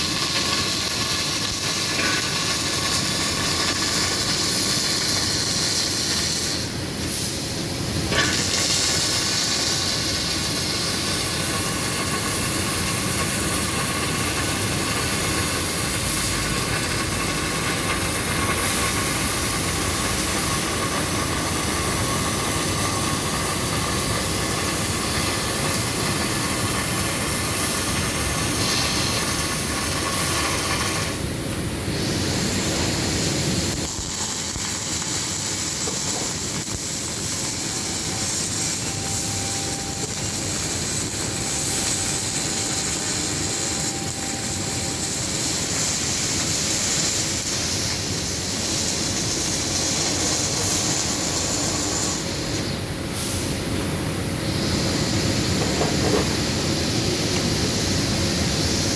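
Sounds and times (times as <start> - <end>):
arc welding hissing sizzle: 0.0 - 58.9.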